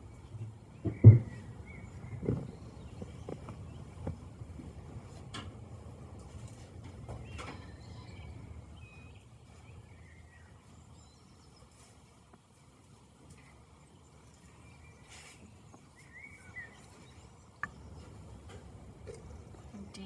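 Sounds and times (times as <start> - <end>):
small birds chirping: 0.0 - 5.3, 6.3 - 20.0
low outdoor rumble: 0.0 - 20.0.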